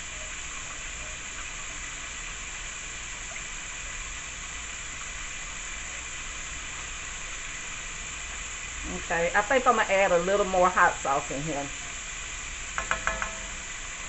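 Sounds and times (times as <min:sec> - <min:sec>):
food sizzling on a stovetop: 0:00.0 - 0:14.0.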